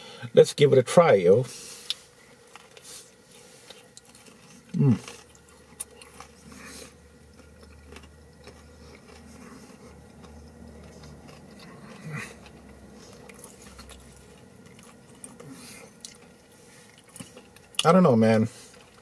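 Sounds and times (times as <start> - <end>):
low steady hum: 0.0 - 19.0
person chewing: 1.7 - 19.0.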